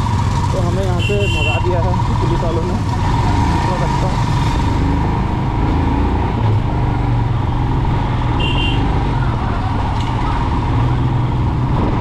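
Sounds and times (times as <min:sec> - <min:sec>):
road noise in traffic: 0:00.0 - 0:12.0
vehicle engine: 0:00.0 - 0:12.0.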